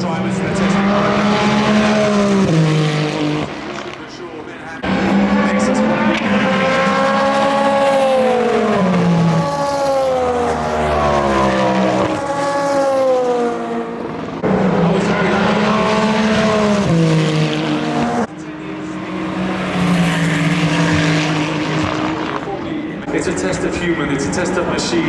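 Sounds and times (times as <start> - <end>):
race car engines howling: 0.0 - 25.0.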